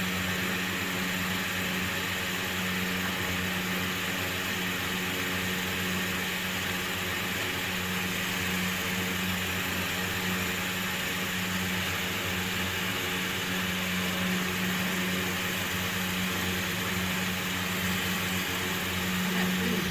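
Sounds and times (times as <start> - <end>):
steady mechanical hum: 0.0 - 19.9.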